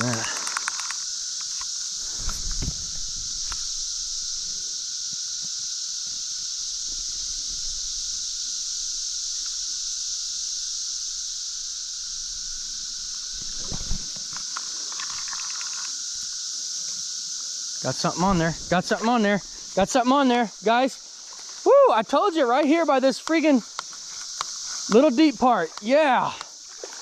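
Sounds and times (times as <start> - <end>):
cicada chorus drone: 0.0 - 27.0.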